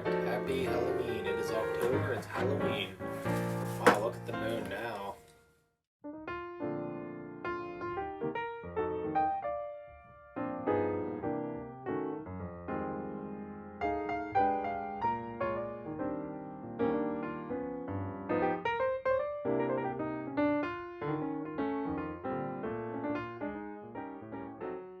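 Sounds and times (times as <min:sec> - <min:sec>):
piano music: 0:00.0 - 0:05.4, 0:06.0 - 0:25.0.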